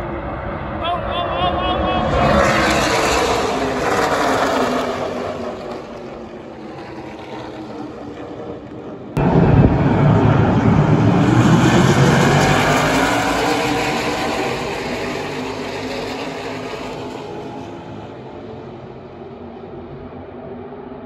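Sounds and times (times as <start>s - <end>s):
race truck engines passing by: 0.0s - 8.4s, 9.3s - 18.5s.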